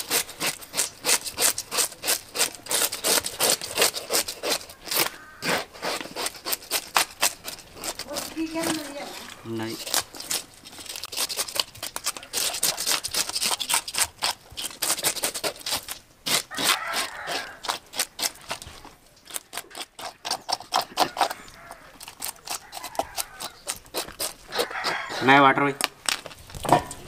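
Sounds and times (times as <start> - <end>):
blade scraping fish scales: 0.0 - 25.4.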